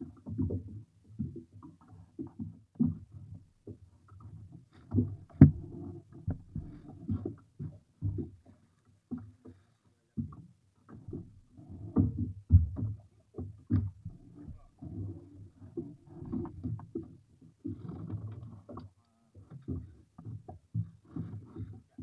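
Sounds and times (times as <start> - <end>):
low thumps and knocks on boat: 0.0 - 22.0.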